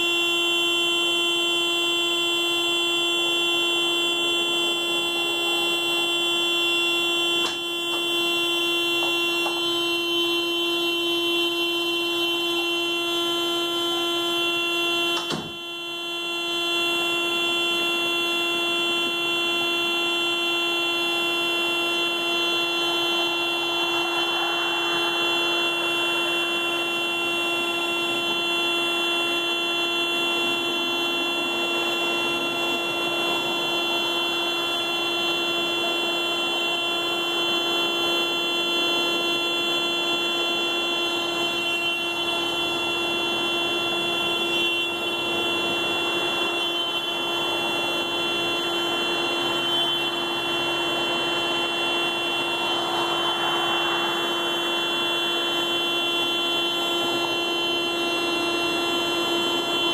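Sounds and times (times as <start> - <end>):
car horn steady tone: 0.0 - 59.9.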